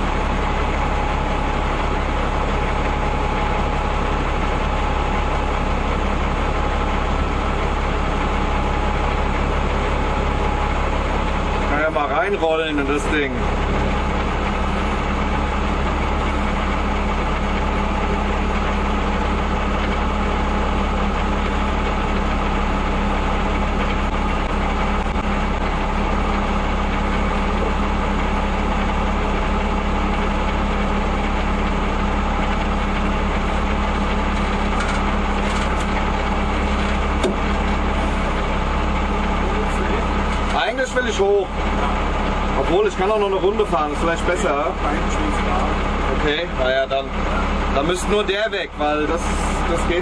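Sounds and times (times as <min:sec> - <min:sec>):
army truck engine running: 0:00.0 - 0:50.0.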